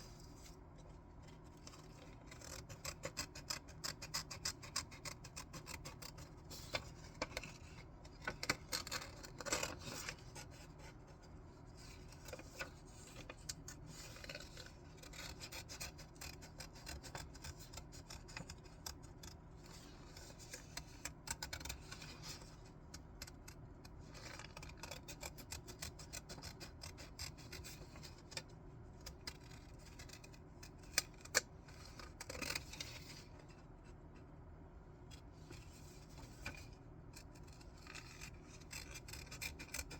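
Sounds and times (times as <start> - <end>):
scissors cutting paper: 1.6 - 10.9, 11.8 - 33.3, 36.0 - 39.9.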